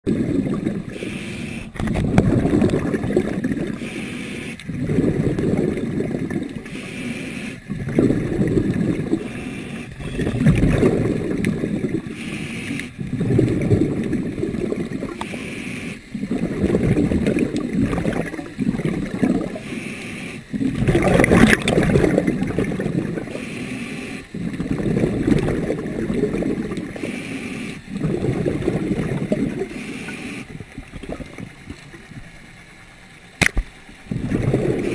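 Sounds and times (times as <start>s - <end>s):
underwater water rushing: 0.0s - 34.9s.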